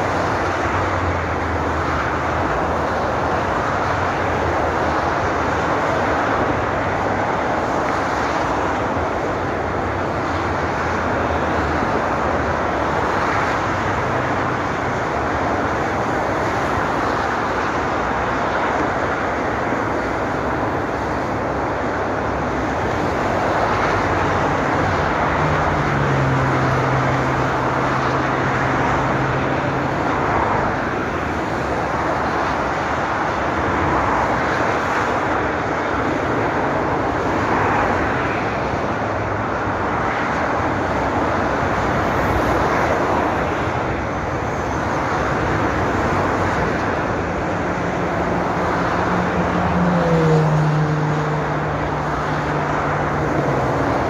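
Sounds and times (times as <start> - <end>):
motorway traffic rushing: 0.0 - 54.0
passing vehicle engine hum: 0.0 - 54.0.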